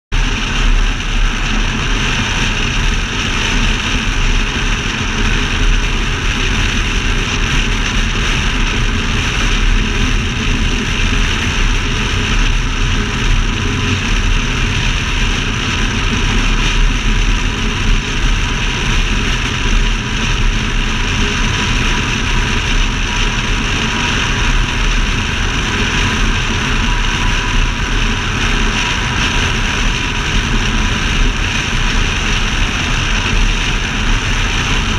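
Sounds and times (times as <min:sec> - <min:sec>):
car engine droning: 0:00.1 - 0:34.9
road noise: 0:00.1 - 0:34.9
wind rush: 0:00.1 - 0:34.9.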